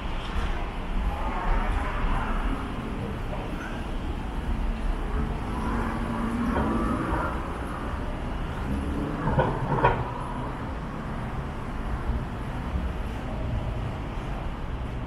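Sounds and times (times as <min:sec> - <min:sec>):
passing vehicle rumble: 0:00.0 - 0:15.0.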